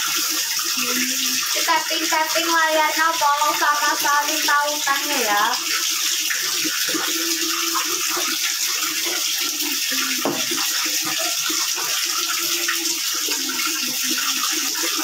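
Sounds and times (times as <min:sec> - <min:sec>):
tap water running into bucket: 0:00.0 - 0:15.0.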